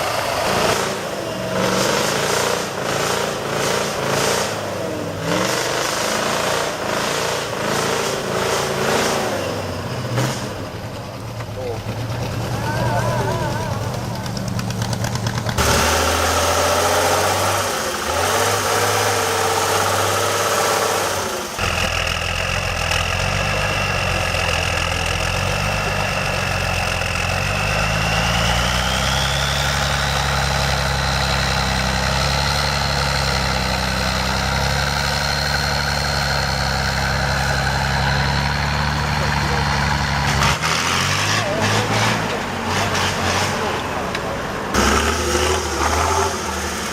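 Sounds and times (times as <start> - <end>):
truck engines revving: 0.0 - 46.9.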